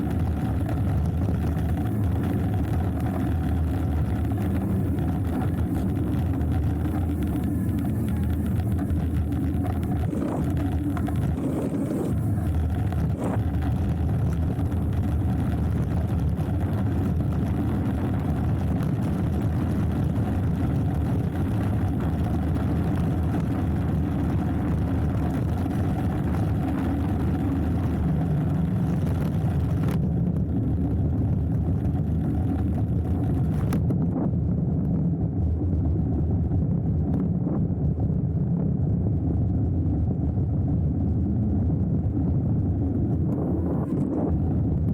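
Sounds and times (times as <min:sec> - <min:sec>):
wind rush on microphone: 0:00.0 - 0:44.9.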